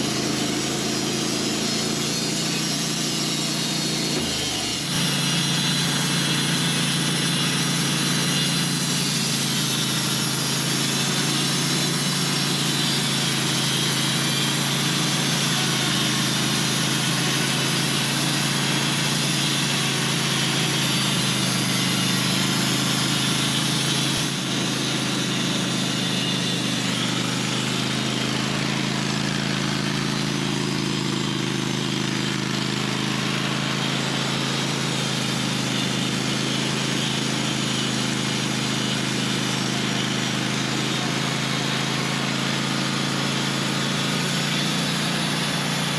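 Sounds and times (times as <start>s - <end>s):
saw blade cutting log: 0.0s - 45.9s
sawmill engine running: 0.0s - 45.9s.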